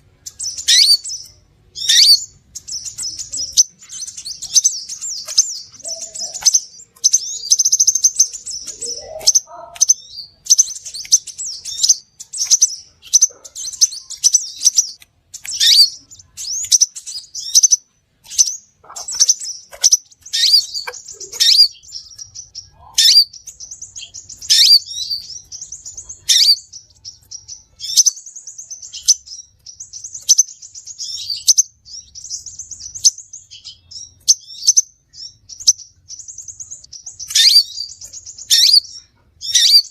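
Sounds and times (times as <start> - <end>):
bird chirping and calling: 0.0 - 39.9.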